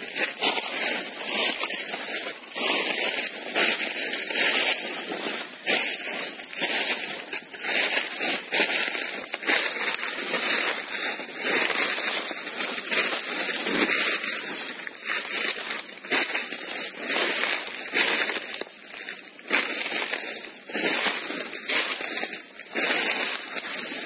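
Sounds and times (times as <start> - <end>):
footsteps crunching dry leaves: 0.0 - 24.0.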